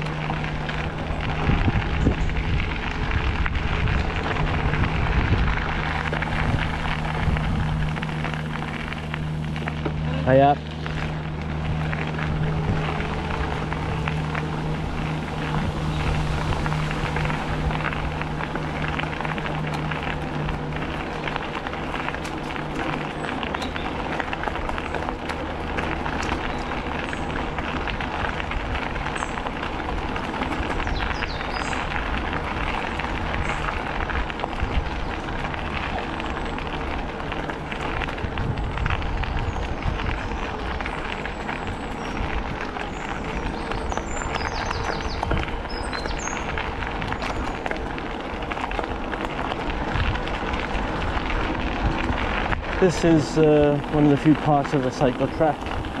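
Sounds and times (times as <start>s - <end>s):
wind on microphone: 0.0s - 21.4s, 27.2s - 48.1s, 48.9s - 54.2s
bicycle tyres on gritty path: 0.0s - 56.0s
low steady hum: 0.0s - 56.0s.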